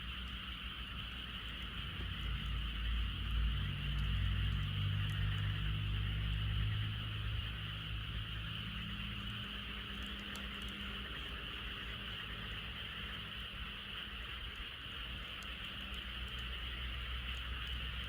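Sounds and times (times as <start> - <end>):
campfire crackles: 0.0 - 18.0
frogs trilling: 0.0 - 18.0.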